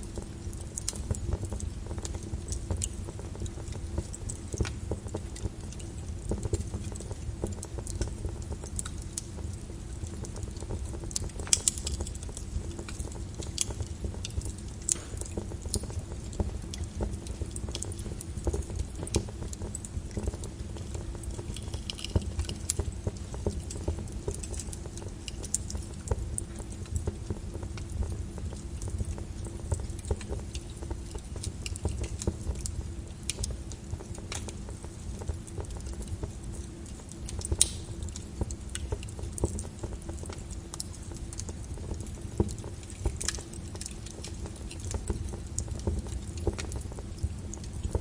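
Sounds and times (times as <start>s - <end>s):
fire crackling and popping: 0.0s - 48.0s
fire low rumble: 0.0s - 48.0s.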